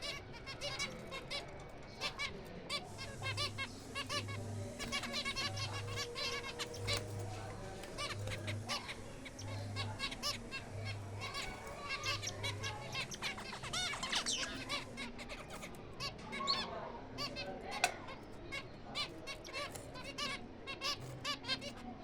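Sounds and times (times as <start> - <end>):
finches chirping: 0.0 - 22.0.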